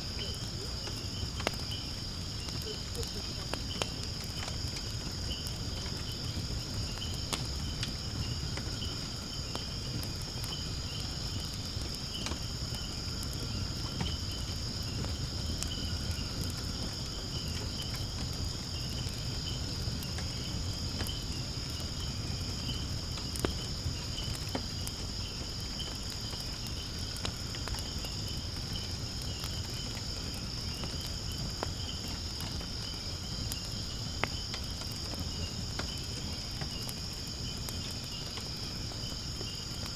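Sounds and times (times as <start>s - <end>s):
firewood crackling and popping: 0.0s - 39.9s
insects trilling: 0.0s - 39.9s.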